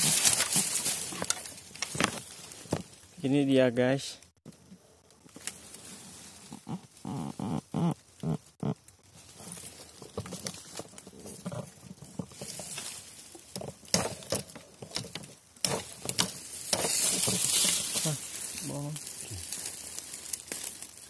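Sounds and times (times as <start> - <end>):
bamboo leaves rustling and snapping: 0.0 - 3.3, 4.5 - 7.0, 8.0 - 21.0.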